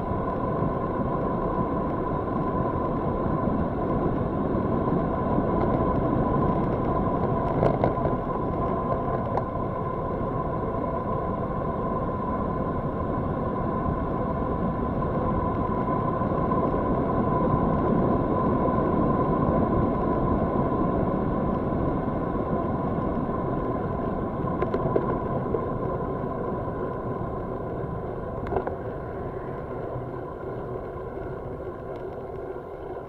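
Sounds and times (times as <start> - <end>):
wind rushing over microphone: 0.0 - 32.4
constant high hum: 0.0 - 33.0.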